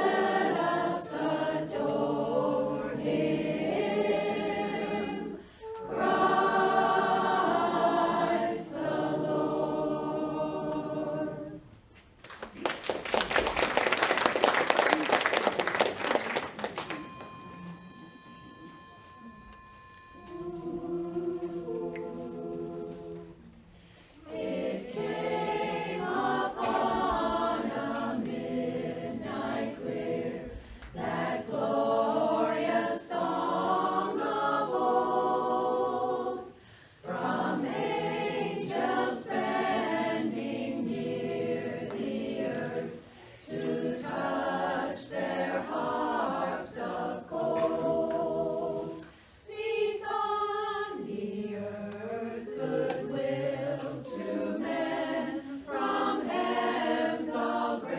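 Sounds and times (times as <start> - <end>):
barbershop chorus singing a cappella: 0.0 - 11.7, 20.1 - 57.9.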